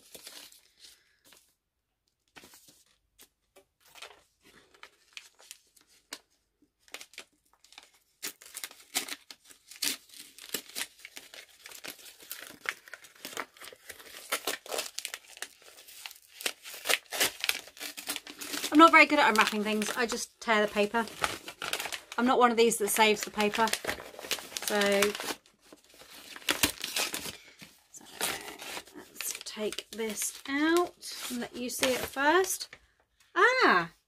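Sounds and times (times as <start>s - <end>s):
wrapping paper tearing and crumpling: 0.0s - 1.0s, 4.0s - 6.2s, 6.8s - 32.7s.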